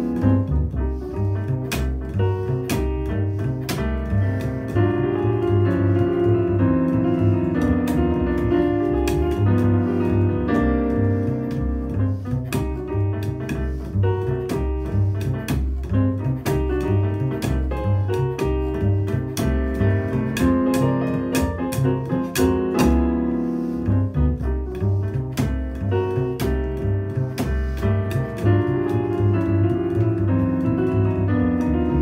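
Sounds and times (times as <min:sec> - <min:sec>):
jazz piano chords and melody: 0:00.0 - 0:32.0
plucked double bass notes: 0:00.0 - 0:32.0.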